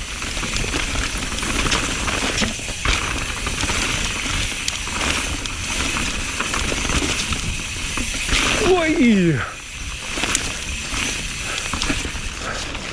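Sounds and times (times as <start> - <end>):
bike clicks and rattles: 0.0 - 12.9
tyres rumbling on rough trail: 0.0 - 12.9.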